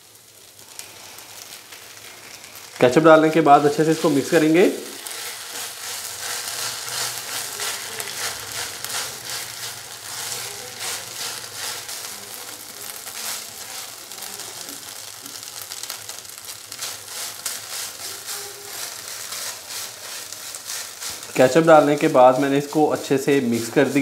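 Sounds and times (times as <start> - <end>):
food sizzling in a frying pan: 0.0 - 24.0
spatula scraping a pan: 3.6 - 14.0, 14.7 - 24.0.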